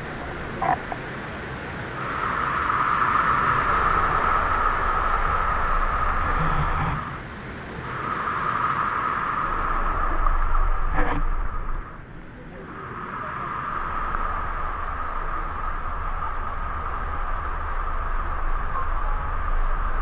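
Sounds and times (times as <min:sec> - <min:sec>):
steady high drone: 0:00.0 - 0:08.5, 0:09.3 - 0:20.0.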